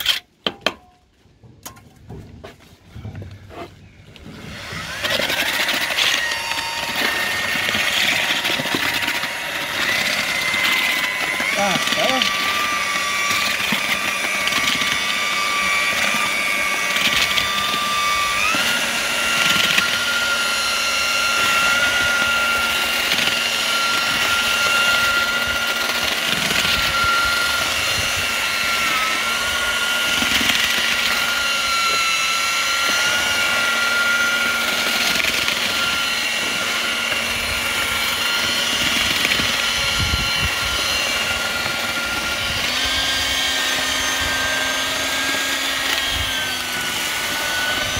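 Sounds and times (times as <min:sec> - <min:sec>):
electric mortar mixer running: 0:03.0 - 0:47.9.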